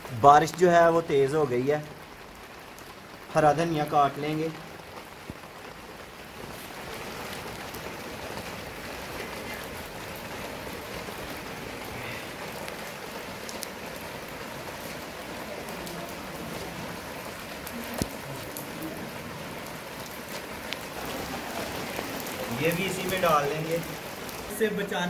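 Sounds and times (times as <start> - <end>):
heavy rain on concrete: 0.0 - 25.0.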